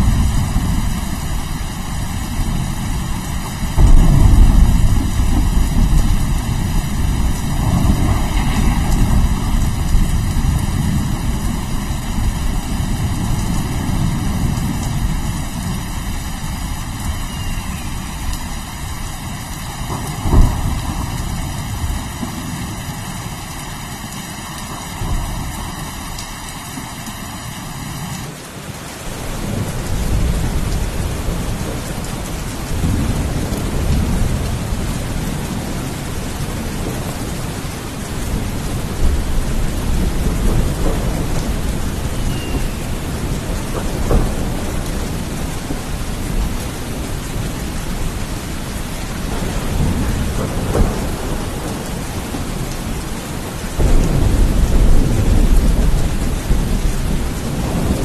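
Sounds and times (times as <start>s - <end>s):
thunder rumbling: 0.0s - 28.3s, 29.1s - 58.0s
heavy rain: 0.0s - 58.0s.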